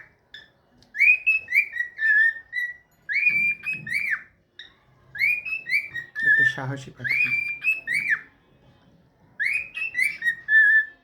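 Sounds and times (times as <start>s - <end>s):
cockatiel whistling a tune: 0.0s - 8.3s, 9.4s - 11.0s.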